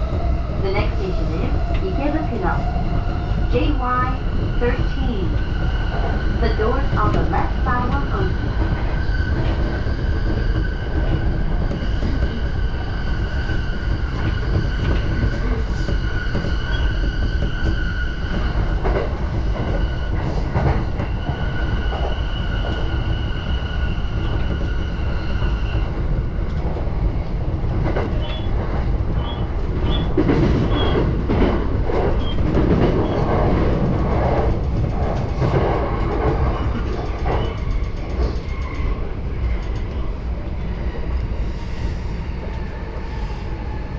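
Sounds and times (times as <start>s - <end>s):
train rattling over track: 0.0s - 43.9s
train wheels rumbling on rail: 0.0s - 43.9s.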